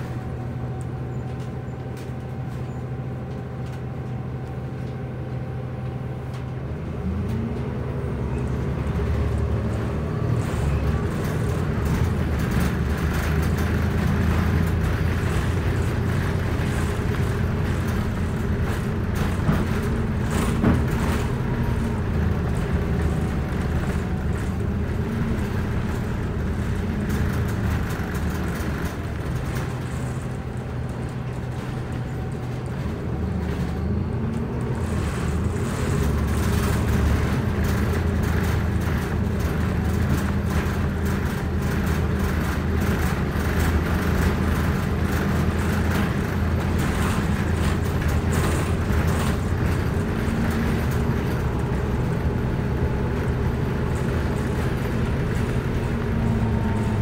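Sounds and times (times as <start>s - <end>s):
bus engine hum: 0.0s - 57.0s
road noise: 0.0s - 57.0s.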